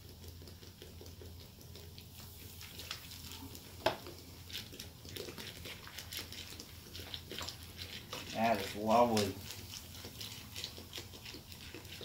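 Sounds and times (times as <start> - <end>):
soda fizzing and pattering: 0.0 - 12.0.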